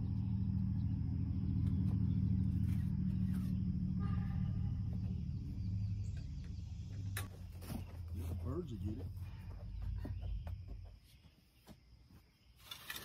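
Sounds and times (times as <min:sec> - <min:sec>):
low engine-like rumble: 0:00.0 - 0:11.0.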